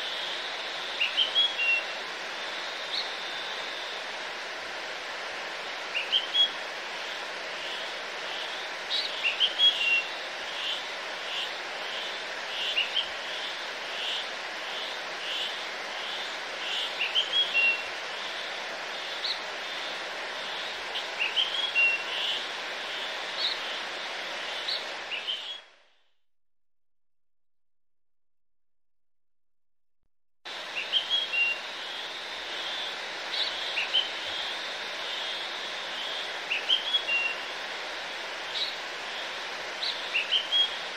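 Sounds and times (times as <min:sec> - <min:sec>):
rushing outdoor hiss: 0:00.0 - 0:25.9, 0:30.5 - 0:40.9.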